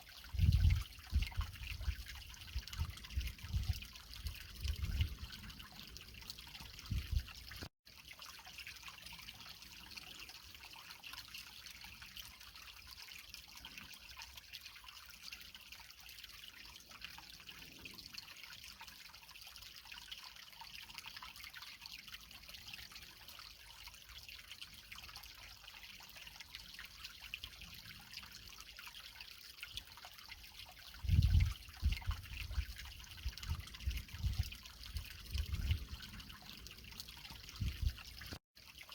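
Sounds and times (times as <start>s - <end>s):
water trickling over rocks: 0.0s - 38.9s.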